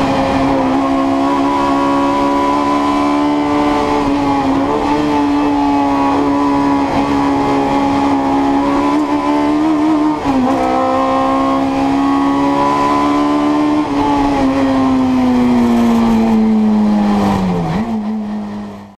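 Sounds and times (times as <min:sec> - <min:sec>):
car engine racing at high revs: 0:00.0 - 0:19.0.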